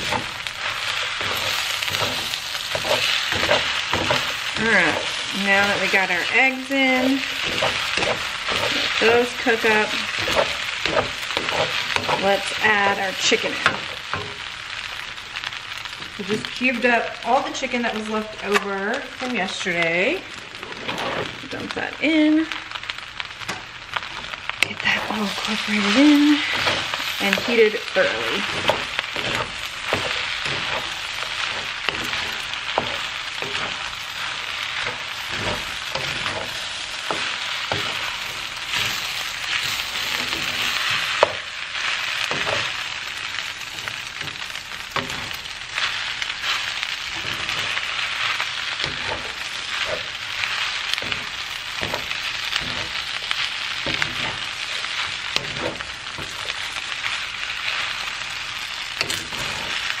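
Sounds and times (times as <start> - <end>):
wooden spatula scraping a pan: 0.0 - 14.5, 20.5 - 21.8, 24.2 - 60.0
rice sizzling in a wok: 0.0 - 60.0.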